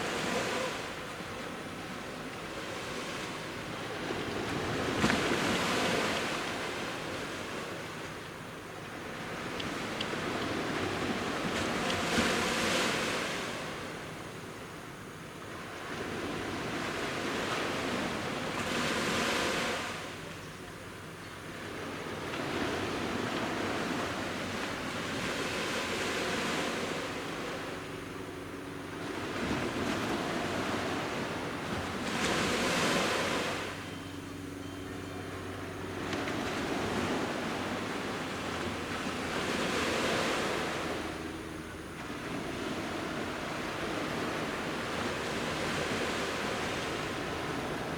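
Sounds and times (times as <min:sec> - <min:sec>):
sea waves breaking on a beach: 0:00.0 - 0:34.6, 0:35.3 - 0:47.9.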